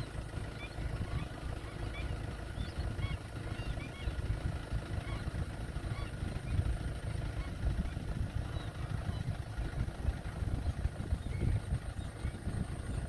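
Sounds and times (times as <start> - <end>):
low rumble: 0.0 - 13.0
waterbirds calling: 0.0 - 13.0.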